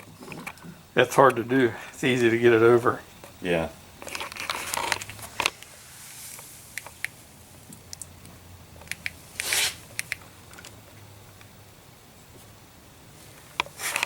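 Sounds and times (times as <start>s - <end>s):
faint low hum: 0.0s - 13.7s.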